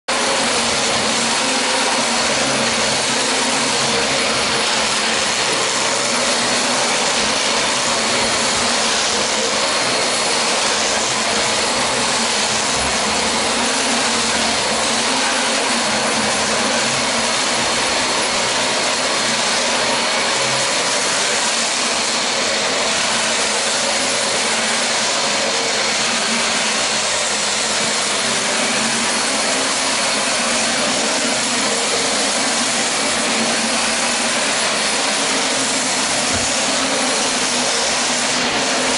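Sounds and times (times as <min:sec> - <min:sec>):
vacuum cleaner running: 0:00.1 - 0:38.9.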